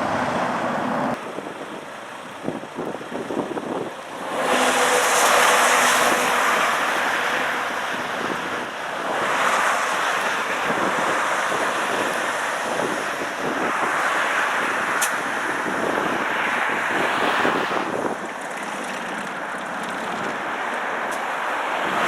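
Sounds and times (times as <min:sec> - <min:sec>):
tyre noise on snowy road: 0:00.0 - 0:22.0
wind noise: 0:00.0 - 0:22.0.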